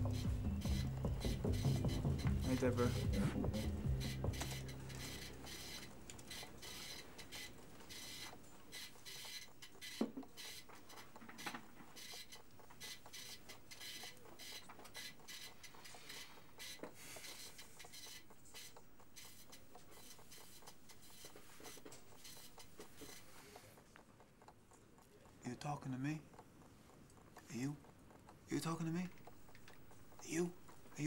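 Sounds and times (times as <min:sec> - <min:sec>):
faint mechanical whirring: 0:00.0 - 0:31.0.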